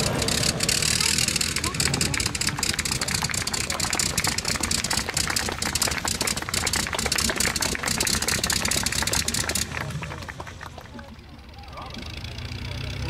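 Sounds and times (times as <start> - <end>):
rotary engine running: 0.0 - 13.0.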